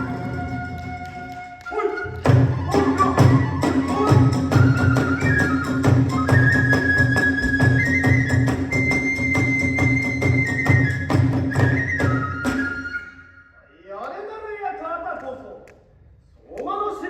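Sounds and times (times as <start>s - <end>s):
bamboo flute long high notes: 0.0s - 13.7s.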